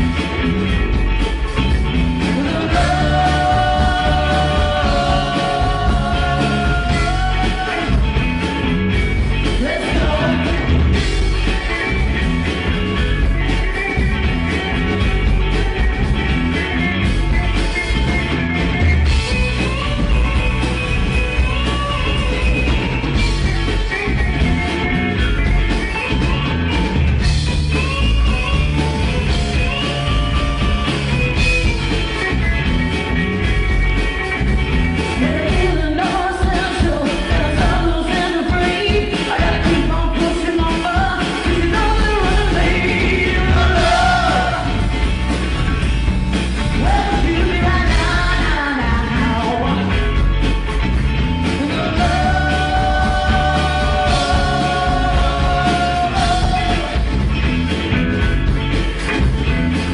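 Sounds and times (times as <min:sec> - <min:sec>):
rock band playing with singing: 0:00.0 - 0:59.9.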